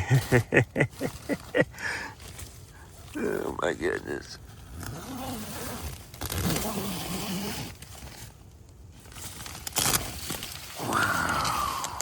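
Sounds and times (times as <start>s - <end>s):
tent fabric rustling: 0.1s - 12.0s.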